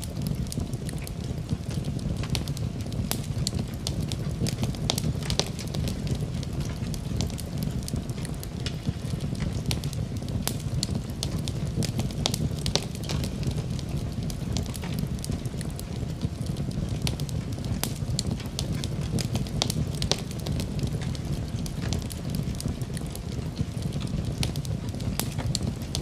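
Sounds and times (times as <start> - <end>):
fire pops and snaps: 0.0 - 26.0
low rumble of flames: 0.0 - 26.0.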